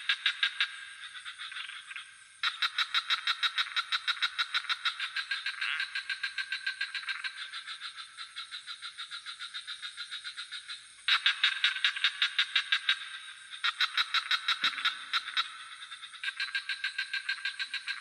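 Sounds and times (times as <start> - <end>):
frogs calling in fast pulses: 0.0 - 18.0
high insect drone: 0.0 - 18.0.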